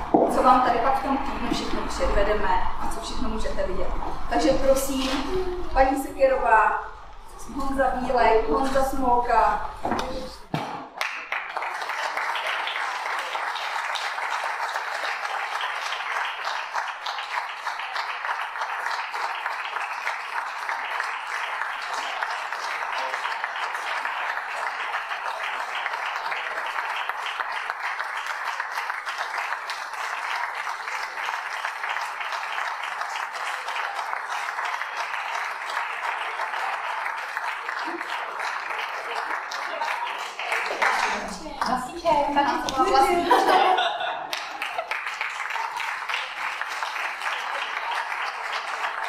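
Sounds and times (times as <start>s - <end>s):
audience applauding: 0.0s - 49.0s.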